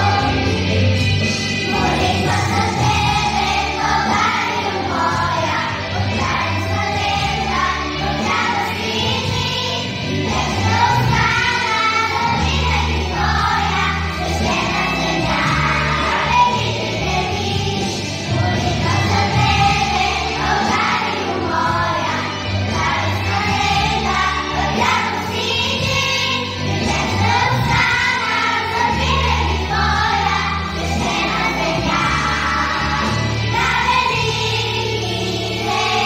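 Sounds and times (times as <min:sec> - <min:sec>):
children's group singing: 0:00.0 - 0:36.0
instrumental accompaniment: 0:00.0 - 0:36.0.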